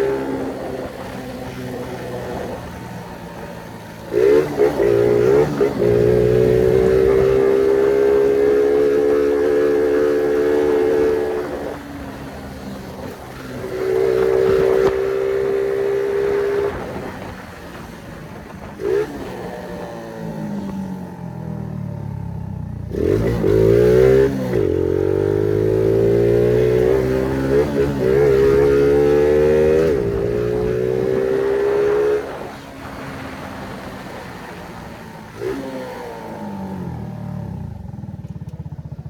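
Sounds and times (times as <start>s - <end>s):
moped engine revving: 0.0s - 39.0s.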